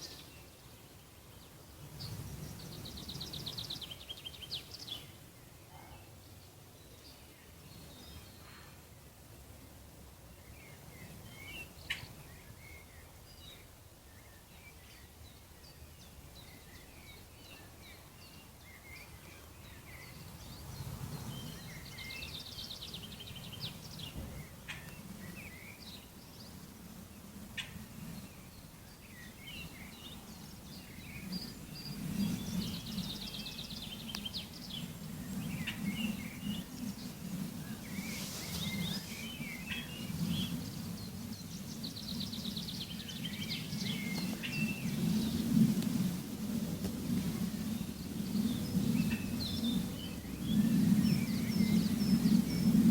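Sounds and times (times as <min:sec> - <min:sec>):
small birds chirping: 0:00.0 - 0:08.8, 0:10.3 - 0:52.9.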